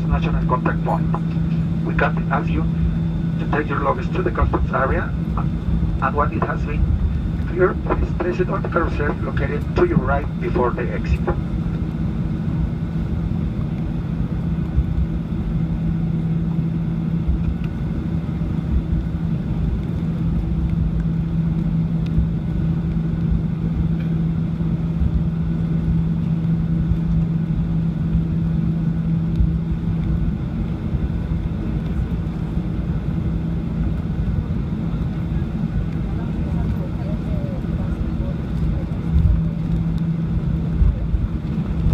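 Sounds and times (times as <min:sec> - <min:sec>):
aircraft cabin low rumble: 0:00.0 - 0:41.9
steady hum: 0:00.0 - 0:41.9.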